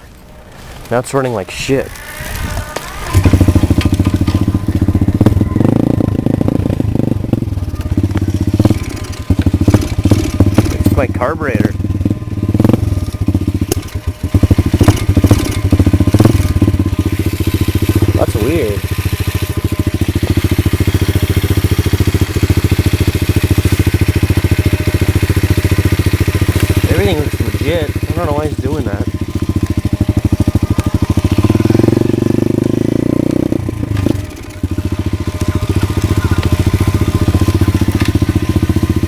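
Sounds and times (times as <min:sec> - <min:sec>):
motorcycle engine running roughly: 0:01.6 - 0:39.0.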